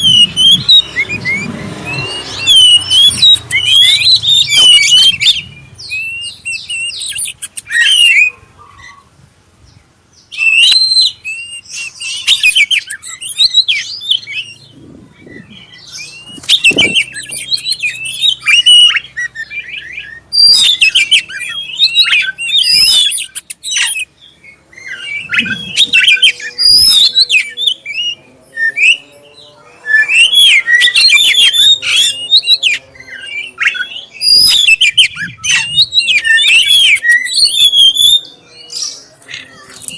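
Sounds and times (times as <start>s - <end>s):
bird singing varied whistles: 0.0s - 8.4s, 10.3s - 29.1s, 29.9s - 39.0s.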